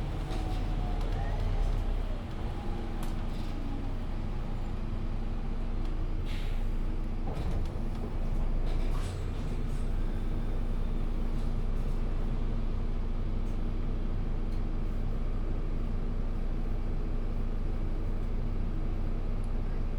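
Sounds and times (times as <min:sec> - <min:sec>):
bus engine rumble: 0:00.0 - 0:19.9.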